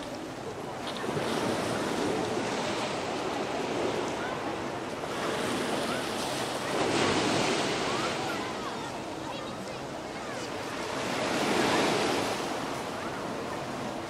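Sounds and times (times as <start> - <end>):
sea waves washing against rocks: 0.0 - 14.0.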